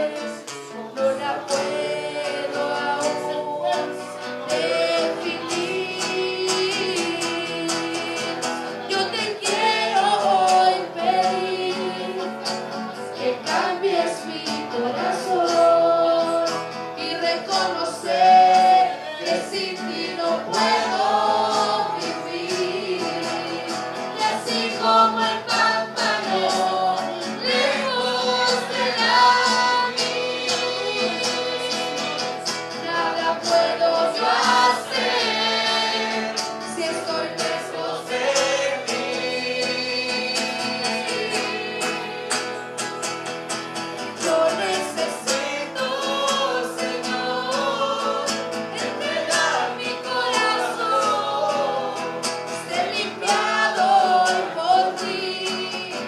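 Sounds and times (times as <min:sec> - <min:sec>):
voices singing worship song: 0:00.0 - 0:56.0.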